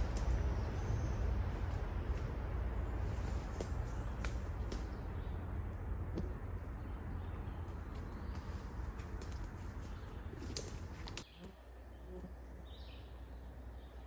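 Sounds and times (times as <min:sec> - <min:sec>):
low rumble and hiss: 0:00.0 - 0:14.0.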